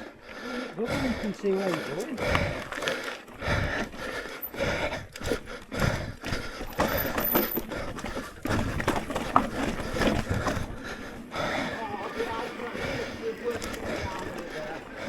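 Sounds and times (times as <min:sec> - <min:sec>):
bike clattering over rough trail: 0:00.8 - 0:15.0
wheels chain and frame rattling: 0:01.3 - 0:05.4, 0:06.5 - 0:15.0.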